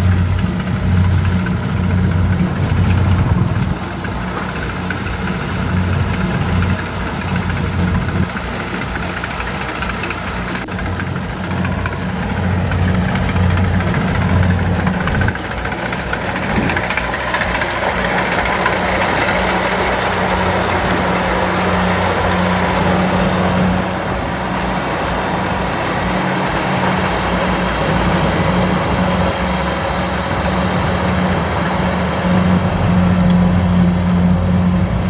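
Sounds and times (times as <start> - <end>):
diesel engine drone: 0.0 - 35.0
machinery clatter: 0.0 - 35.0.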